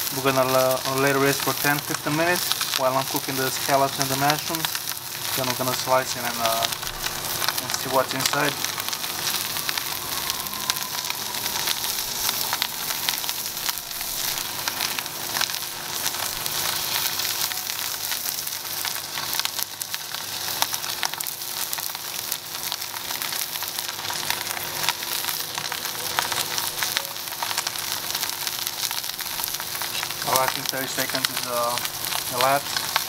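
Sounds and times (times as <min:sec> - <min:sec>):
fat popping and crackling: 0:00.0 - 0:33.0
steak sizzling in a skillet: 0:00.0 - 0:33.0.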